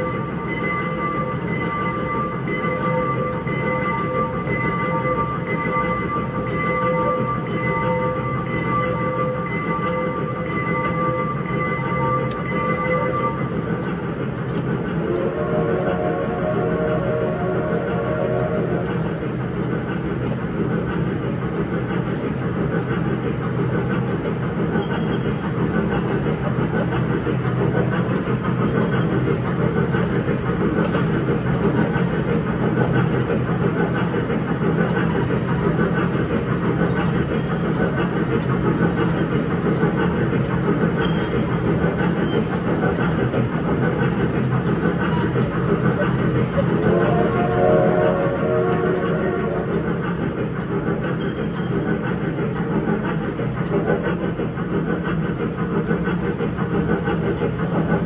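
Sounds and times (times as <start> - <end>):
electric train motor hum: 0.0 - 58.0
train rolling noise: 0.0 - 58.0.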